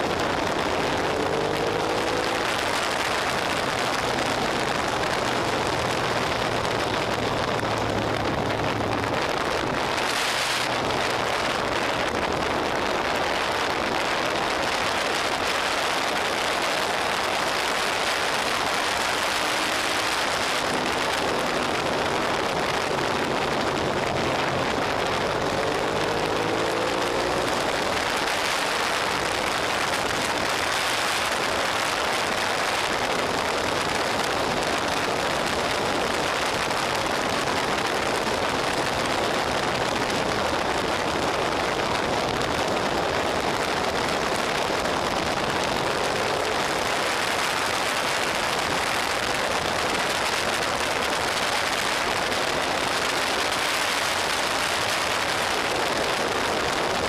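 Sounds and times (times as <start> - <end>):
motorcycle engine: 0.0 - 57.0
wind rushing over microphone: 0.0 - 57.0.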